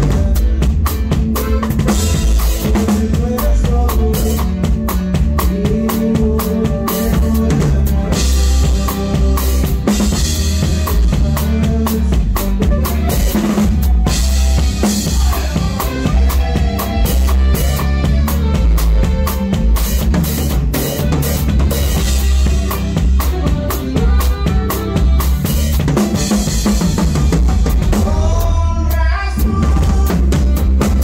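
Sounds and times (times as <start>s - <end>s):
drum kit: 0.0s - 31.0s
live band playing: 0.0s - 31.0s.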